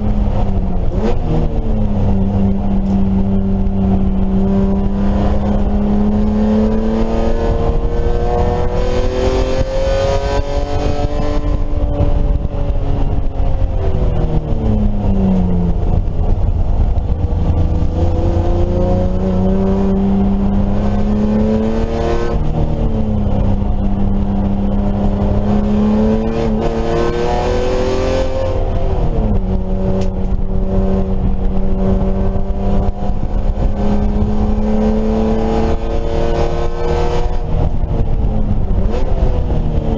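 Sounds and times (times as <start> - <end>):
race car engine revving: 0.0 - 39.9
steady low rumble: 0.0 - 39.9.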